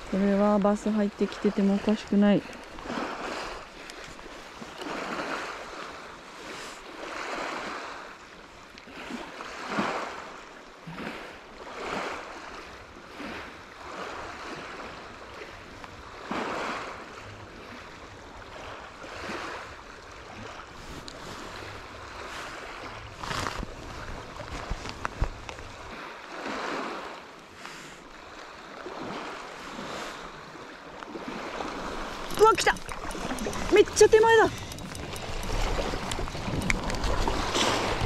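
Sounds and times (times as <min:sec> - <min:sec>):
small waves washing ashore: 0:00.0 - 0:38.0.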